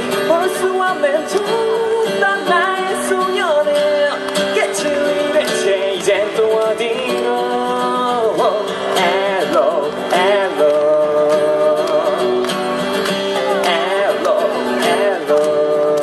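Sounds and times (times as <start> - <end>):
strummed acoustic guitar: 0.0 - 16.0
wordless vocal line: 0.0 - 16.0.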